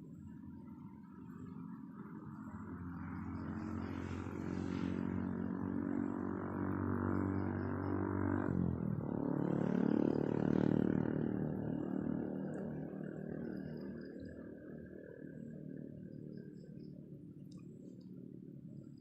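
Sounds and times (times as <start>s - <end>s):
motor engine droning: 0.0s - 19.0s.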